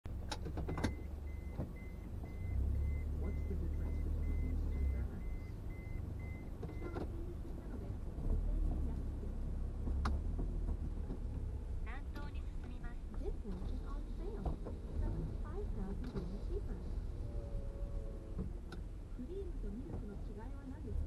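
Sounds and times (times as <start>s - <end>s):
car engine rumble and road noise: 0.0s - 21.0s.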